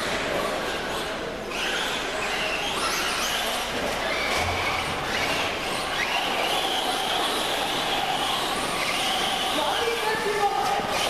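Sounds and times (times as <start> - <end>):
racing engines revving: 0.1 - 11.0.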